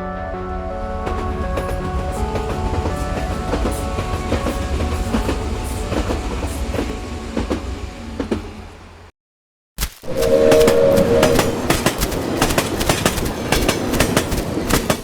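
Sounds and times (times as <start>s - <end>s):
train rumbling on track: 0.0s - 9.1s, 10.0s - 15.0s.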